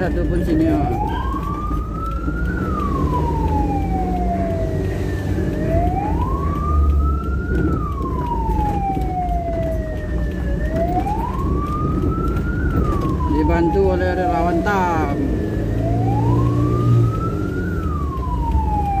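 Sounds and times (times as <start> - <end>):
ambulance siren wailing: 0.0 - 19.0
vehicle rumble: 0.0 - 19.0.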